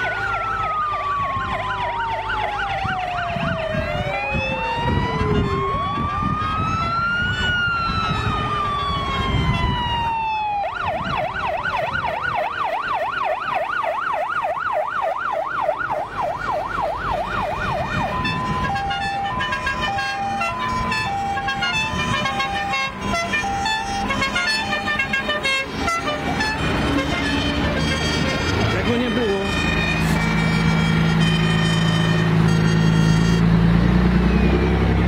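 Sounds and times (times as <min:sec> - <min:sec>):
fire engine sirens: 0:00.0 - 0:35.0
truck engines rumbling: 0:00.0 - 0:35.0.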